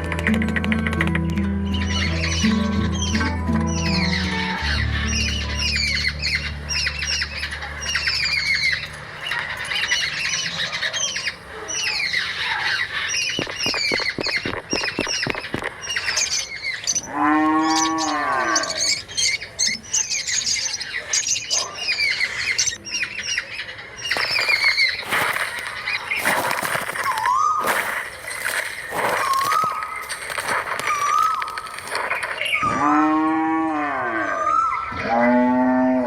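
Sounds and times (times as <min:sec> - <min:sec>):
low falling bird call: 0:00.0 - 0:19.5, 0:22.8 - 0:35.5
flock of birds chirping: 0:00.0 - 0:36.0.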